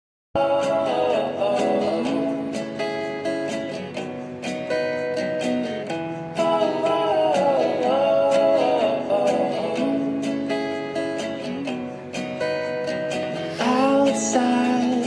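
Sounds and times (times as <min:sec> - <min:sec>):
acoustic pop music: 0:00.4 - 0:15.0
strummed guitar: 0:00.4 - 0:15.0.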